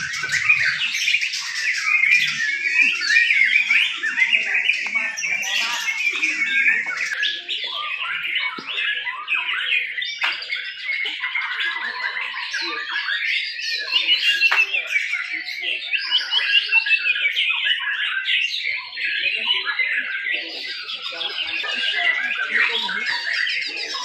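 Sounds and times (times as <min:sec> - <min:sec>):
songbirds whistling and trilling: 0:00.0 - 0:24.0.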